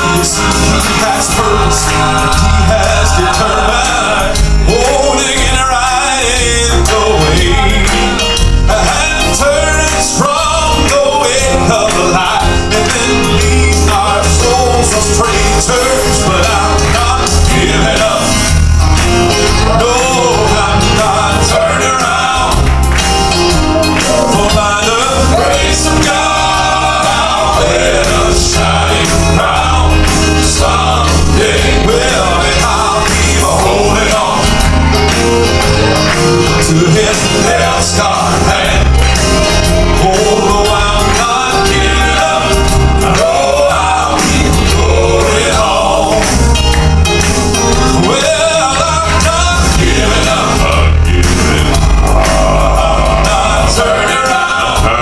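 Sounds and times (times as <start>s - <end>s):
deep bass line: 0.0s - 55.0s
male quartet singing in harmony: 0.0s - 55.0s
piano accompaniment: 0.0s - 55.0s.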